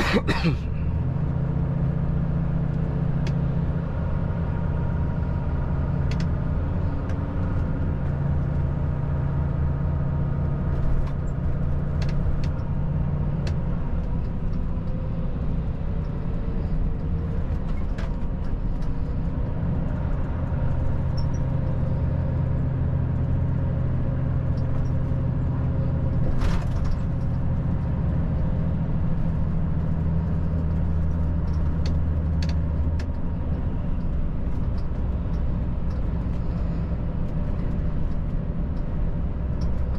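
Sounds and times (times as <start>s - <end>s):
tyre and road noise: 0.0s - 39.9s.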